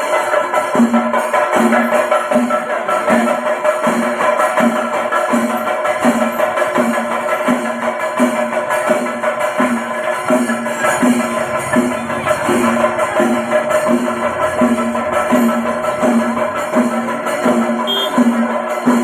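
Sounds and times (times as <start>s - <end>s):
music with percussion and beat: 0.0s - 19.0s.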